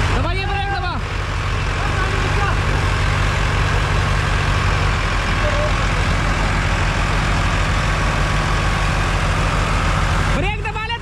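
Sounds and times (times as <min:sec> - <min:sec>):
diesel tractor engines running: 0:00.0 - 0:11.0.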